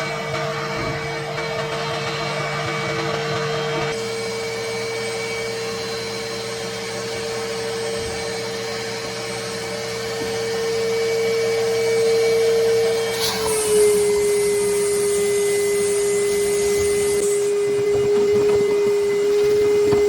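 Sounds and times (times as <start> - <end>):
vacuum motor whine: 0.0 - 20.0.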